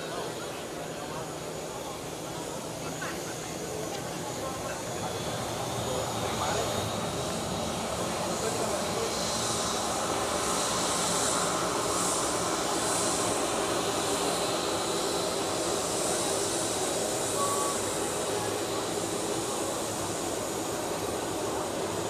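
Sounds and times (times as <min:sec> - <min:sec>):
jet engines hissing: 0:00.0 - 0:22.0.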